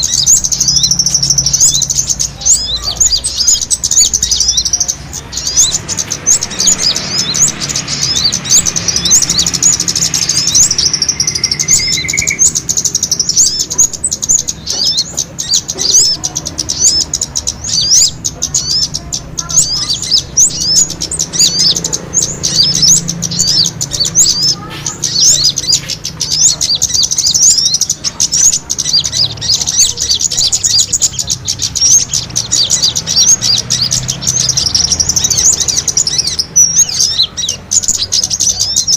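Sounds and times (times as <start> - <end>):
small birds chirping rapidly: 0.0 - 38.9.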